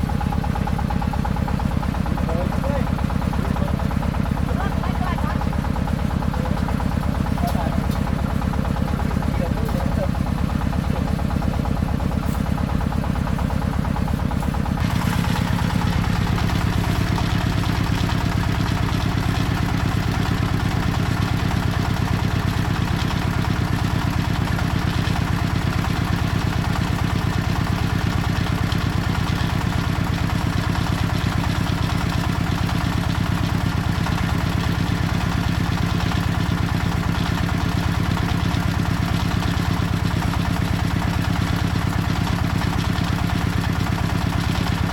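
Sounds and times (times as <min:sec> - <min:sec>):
single-cylinder diesel engine running: 0:00.0 - 0:44.9.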